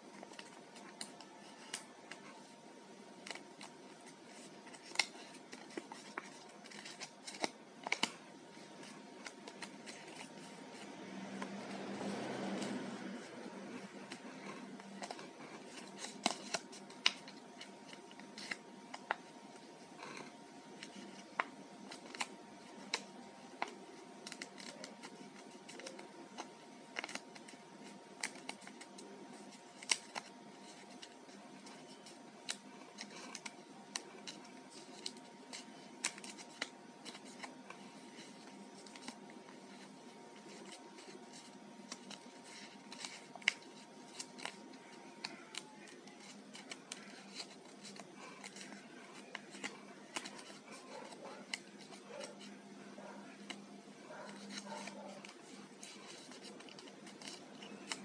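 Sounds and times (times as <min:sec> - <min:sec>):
faint steady hum: 0:00.0 - 0:58.0
stiff paper crackling: 0:03.2 - 0:58.0.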